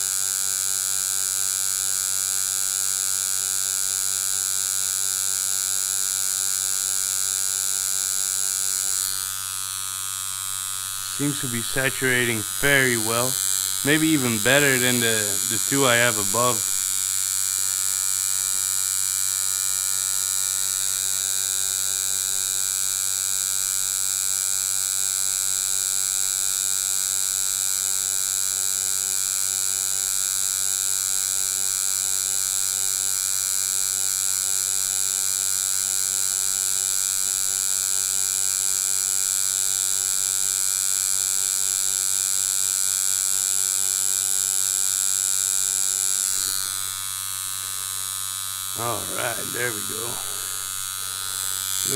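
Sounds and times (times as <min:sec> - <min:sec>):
tattoo machine buzzing: 0:00.0 - 0:51.9.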